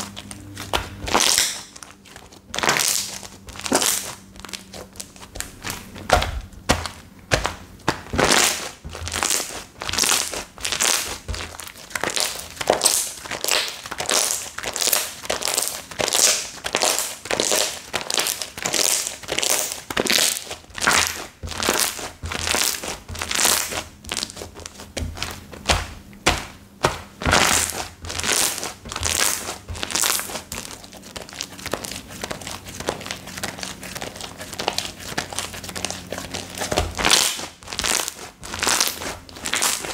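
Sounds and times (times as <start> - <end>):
slime squishing by hand: 0.0 - 39.9.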